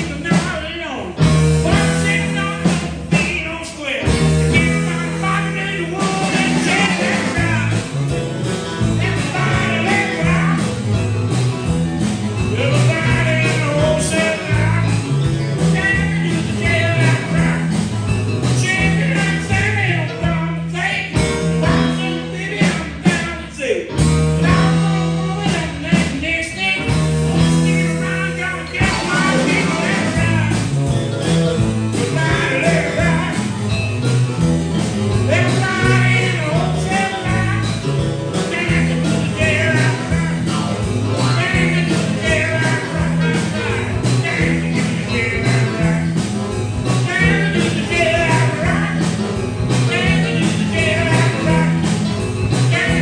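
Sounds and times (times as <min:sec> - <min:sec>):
man singing into a microphone: 0:00.0 - 0:08.0, 0:08.8 - 0:10.8, 0:12.6 - 0:17.8, 0:18.4 - 0:30.8, 0:31.9 - 0:33.5, 0:35.3 - 0:46.3, 0:46.9 - 0:53.0
drum kit: 0:00.0 - 0:53.0
stage keyboard: 0:00.0 - 0:53.0
electric guitars: 0:04.0 - 0:20.2, 0:26.5 - 0:53.0.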